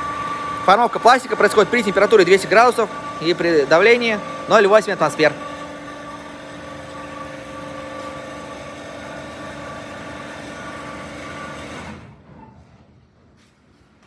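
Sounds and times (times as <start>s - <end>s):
vacuum pump humming: 0.0s - 12.2s.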